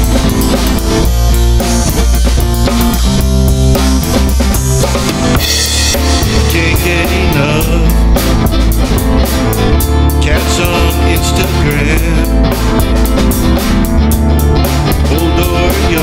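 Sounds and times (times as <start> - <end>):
song with drums bass and guitar: 0.0 - 16.0.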